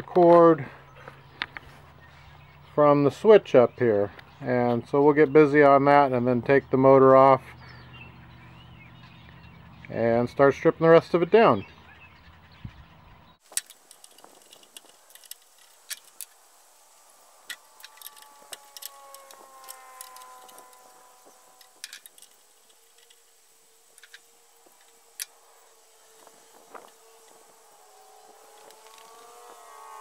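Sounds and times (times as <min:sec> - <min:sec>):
faint distant drone: 0:00.0 - 0:30.0.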